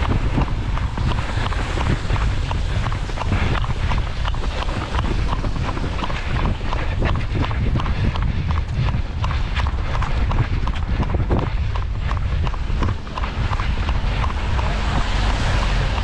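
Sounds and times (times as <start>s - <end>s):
runner's footfalls: 0.0s - 16.0s
wind rumbling on microphone: 0.0s - 16.0s.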